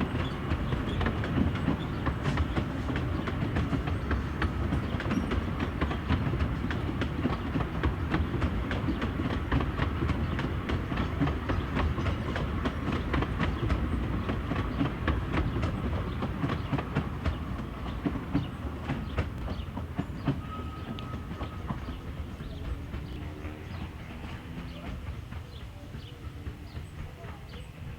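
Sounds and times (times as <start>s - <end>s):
train rumbling along track: 0.0s - 27.9s
wheels clicking over rails: 0.0s - 27.9s.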